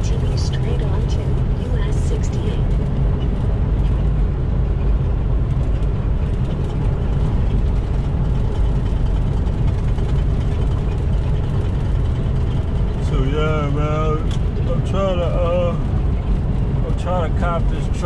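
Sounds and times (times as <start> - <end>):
diesel truck engine drone: 0.0 - 18.0
road noise: 0.0 - 18.0.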